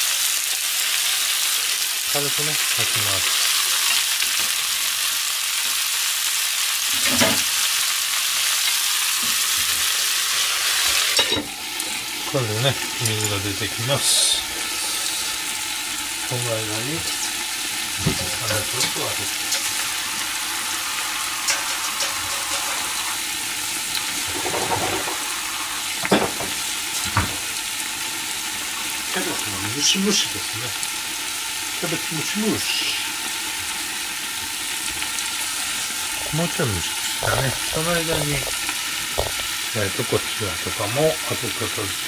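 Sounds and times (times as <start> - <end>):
cabbage sizzling in oil: 0.0 - 42.0.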